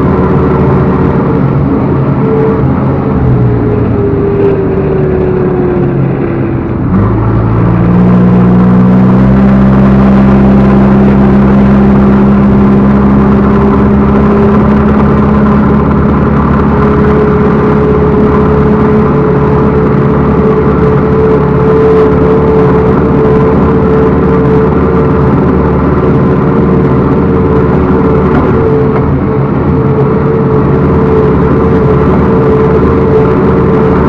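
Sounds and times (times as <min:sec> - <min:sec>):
diesel engine revving: 0:00.0 - 0:34.0.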